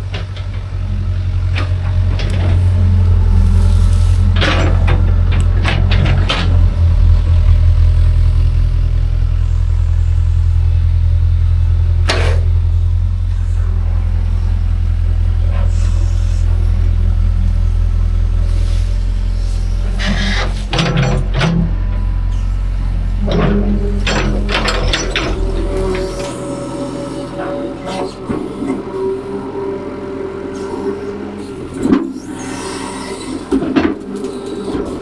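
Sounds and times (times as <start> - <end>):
excavator diesel engine drone: 0.0 - 35.0.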